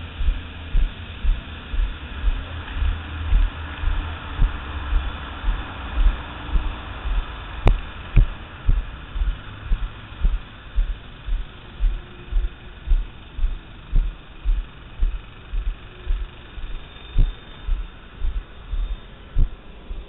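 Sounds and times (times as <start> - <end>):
steady hiss: 0.0 - 20.0
footsteps on pavement: 0.2 - 20.0.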